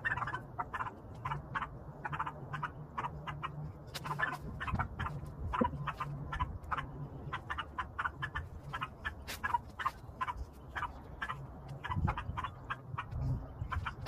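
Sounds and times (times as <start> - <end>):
dogs yapping: 0.0 - 14.0
steady low hum: 0.0 - 14.0.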